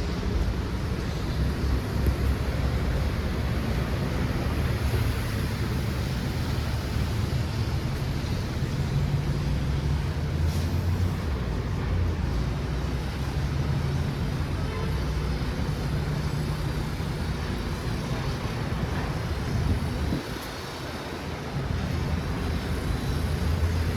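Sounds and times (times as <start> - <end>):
city traffic rumble: 0.0 - 23.9.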